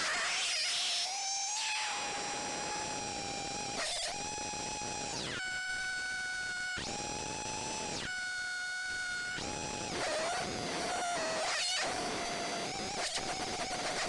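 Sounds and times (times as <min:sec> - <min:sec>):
harsh buzzing synth tone: 0:00.0 - 0:14.0.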